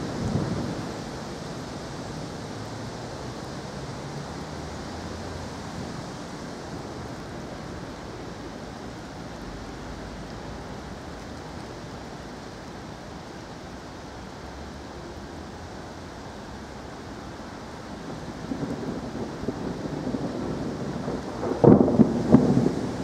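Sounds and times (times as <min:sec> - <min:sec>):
heavy rain hiss: 0:00.0 - 0:23.0
wind: 0:00.0 - 0:23.0.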